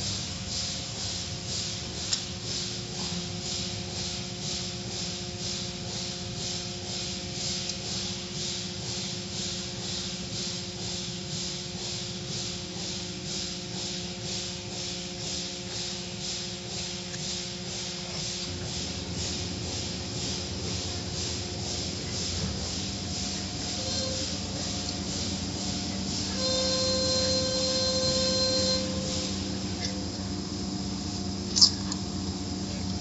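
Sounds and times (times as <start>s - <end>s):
machinery hum: 0.0s - 33.0s.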